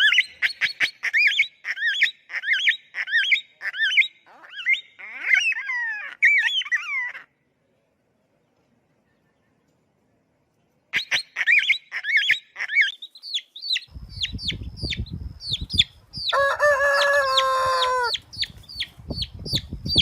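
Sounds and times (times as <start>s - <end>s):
bird chirping and squawking: 0.0s - 7.3s, 11.0s - 20.0s.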